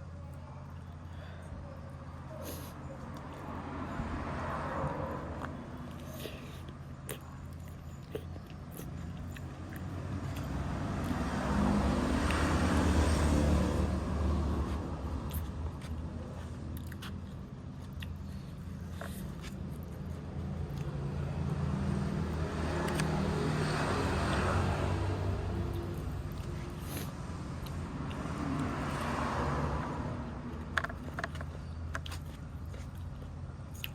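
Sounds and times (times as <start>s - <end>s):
vehicles passing on a road: 0.0s - 33.9s.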